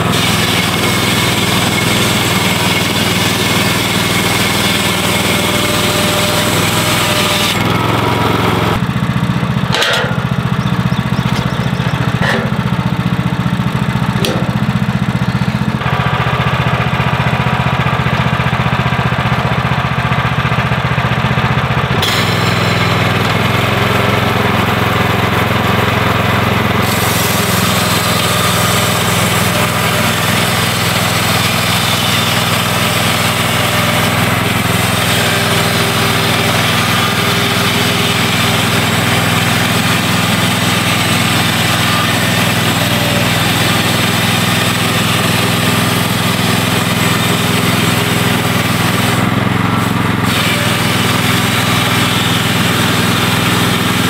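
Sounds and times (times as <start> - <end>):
band saw blade cutting log: 0.0 - 19.8, 20.6 - 54.0
gas engine running: 0.0 - 54.0.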